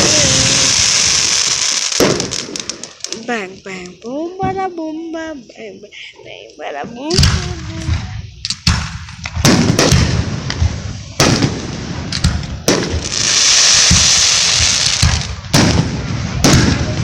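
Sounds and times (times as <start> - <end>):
fireworks banging: 0.0 - 5.8, 6.7 - 17.0
steady firework hiss: 0.0 - 17.0.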